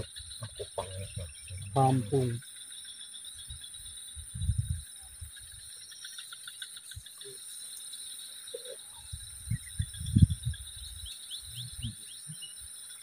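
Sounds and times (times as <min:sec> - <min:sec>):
insects buzzing and chirping: 0:00.0 - 0:13.0.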